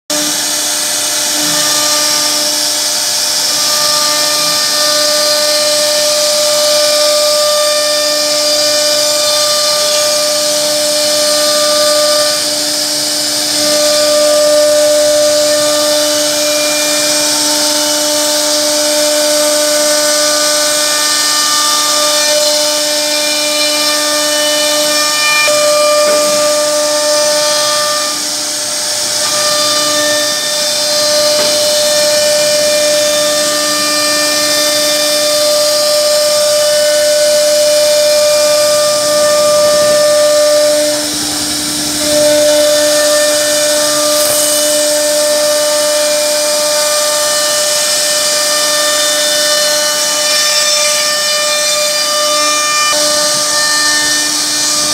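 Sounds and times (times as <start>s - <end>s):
router spindle whining: 0.1s - 54.9s.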